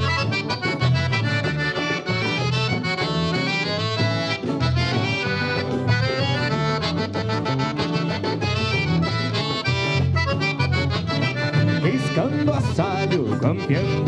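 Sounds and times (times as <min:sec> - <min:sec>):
accordion melody: 0:00.0 - 0:14.0
rhythmic bass accompaniment: 0:00.0 - 0:14.0.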